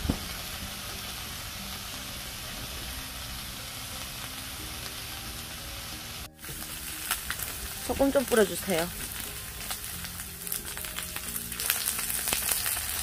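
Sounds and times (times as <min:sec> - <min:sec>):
meat sizzling on griddle: 0:00.0 - 0:13.0.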